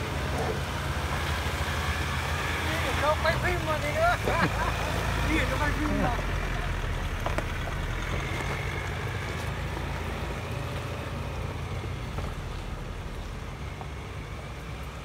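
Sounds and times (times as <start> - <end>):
pickup engine rumble: 0.0 - 15.0
tyres on rocky dirt track: 0.0 - 15.0.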